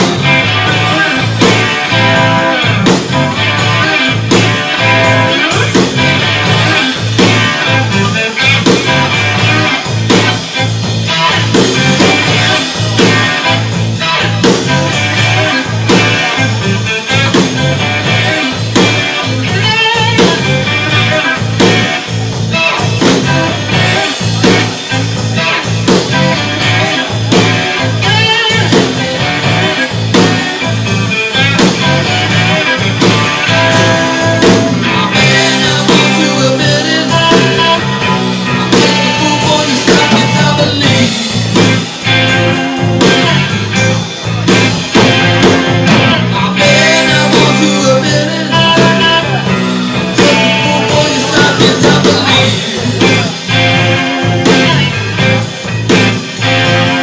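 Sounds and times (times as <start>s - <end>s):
drum kit beat: 0.0s - 57.0s
electric guitar lines: 0.0s - 57.0s.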